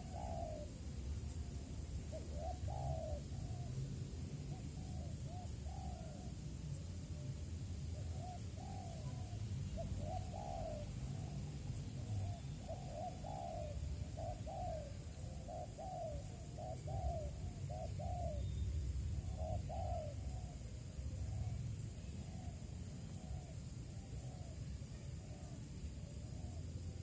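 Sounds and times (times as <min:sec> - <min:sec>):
doves cooing: 0:00.0 - 0:01.4, 0:02.1 - 0:03.8, 0:04.4 - 0:07.3, 0:07.9 - 0:27.0
continuous low rumble: 0:00.0 - 0:27.0.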